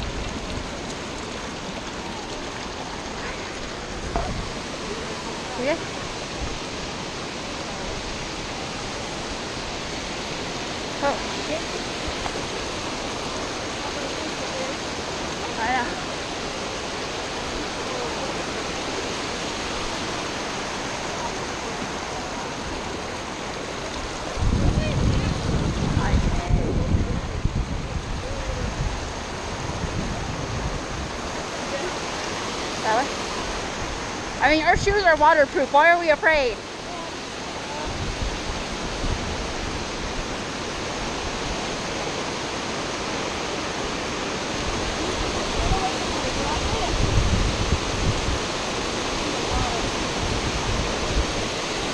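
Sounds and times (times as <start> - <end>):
stream running over rocks: 0.0 - 51.9
waterfall rushing: 0.0 - 51.9.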